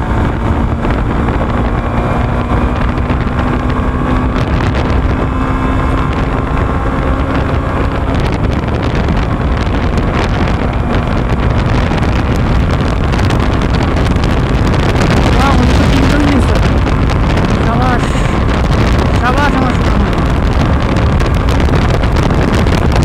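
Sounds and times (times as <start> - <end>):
motorcycle engine hum: 0.0 - 23.0
wind rumble on microphone: 0.0 - 23.0.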